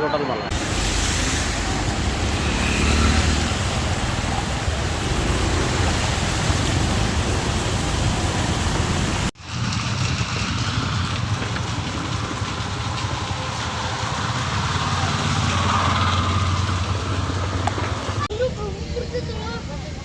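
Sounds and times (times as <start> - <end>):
heavy rain falling: 0.5 - 18.3
steady noise with low rumble: 0.5 - 18.8.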